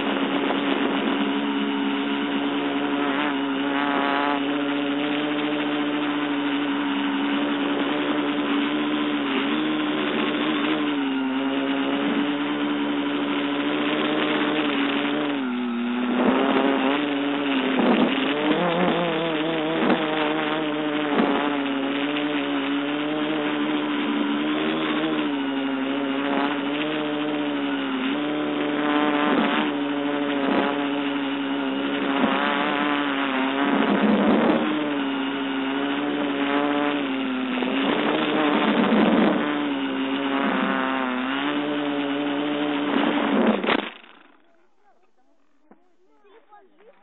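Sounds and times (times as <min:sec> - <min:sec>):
quadcopter propellers buzzing: 0:00.0 - 0:47.0.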